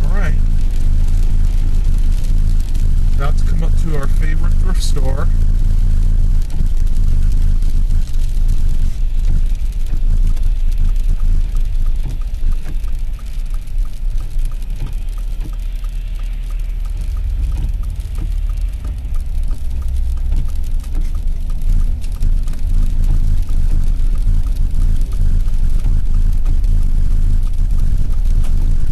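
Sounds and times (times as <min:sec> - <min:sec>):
car road and engine rumble: 0:00.0 - 0:28.9
turn signal ticking: 0:00.0 - 0:28.9.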